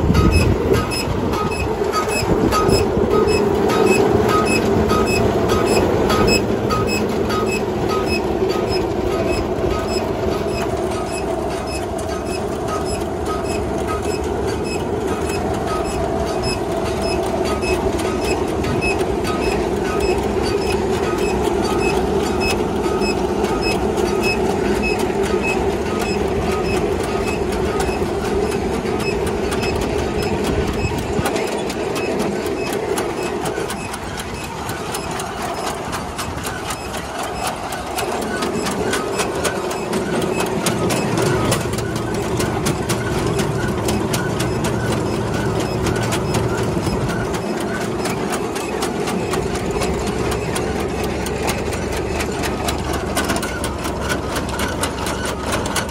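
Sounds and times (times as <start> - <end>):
threshing machine whir and rattle: 0.0 - 55.9.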